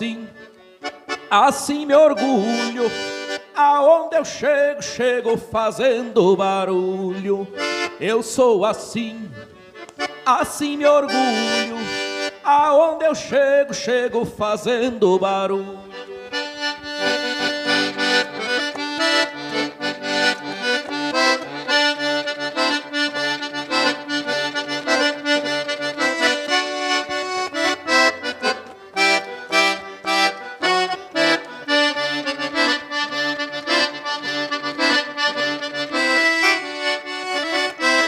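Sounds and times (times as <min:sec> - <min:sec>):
accordion melody: 0:00.0 - 0:38.0.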